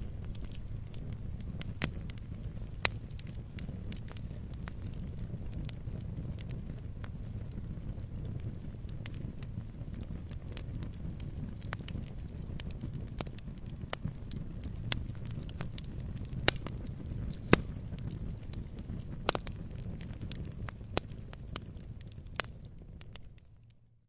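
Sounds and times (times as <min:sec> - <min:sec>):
burning wood snapping and popping: 0:00.0 - 0:23.8
fire flames rumbling: 0:00.0 - 0:24.0.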